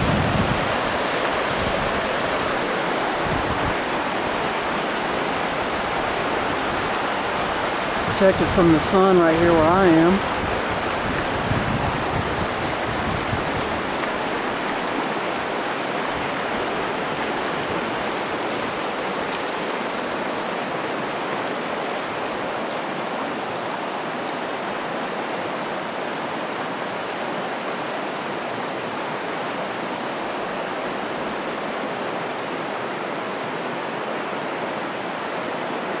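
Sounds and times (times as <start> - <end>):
mountain creek rushing over boulders: 0.0 - 36.0.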